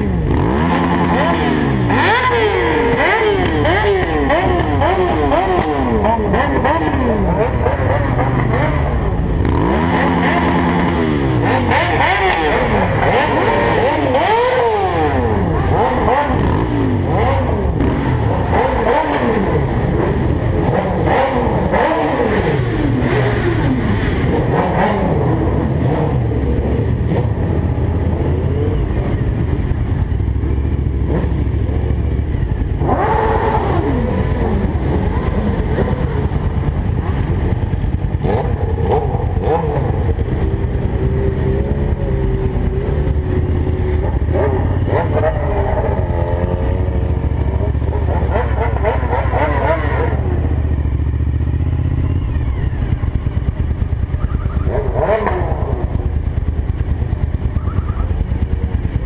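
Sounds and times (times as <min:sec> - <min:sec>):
vehicle engines revving: 0:00.0 - 0:59.0.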